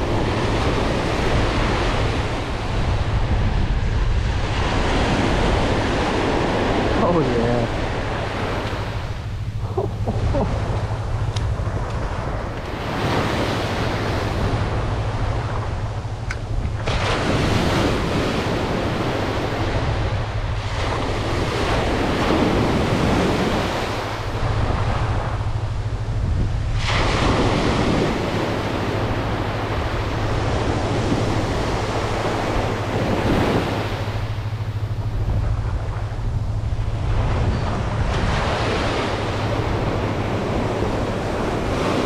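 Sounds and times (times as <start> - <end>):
surf washing over sand: 0.0 - 42.0.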